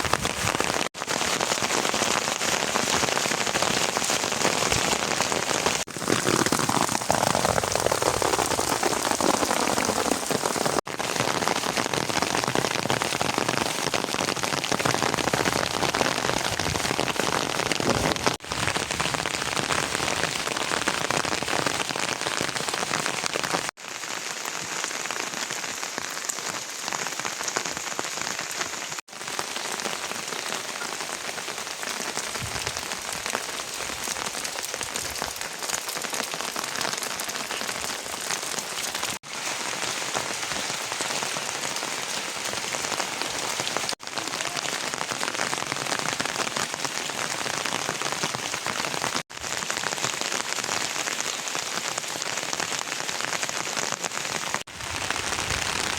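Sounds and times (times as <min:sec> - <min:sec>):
rain pattering: 0:00.0 - 0:55.9.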